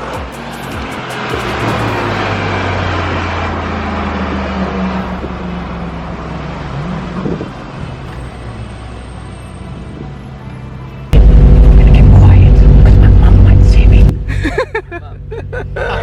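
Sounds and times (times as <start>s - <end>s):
car engine and exhaust droning: 0.0s - 10.1s, 10.8s - 16.0s.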